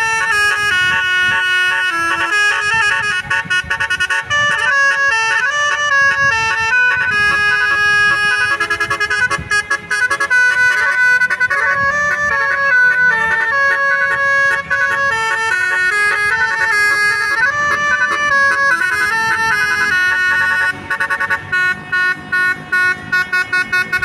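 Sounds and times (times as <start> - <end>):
bus horn playing a tune: 0.0 - 24.0.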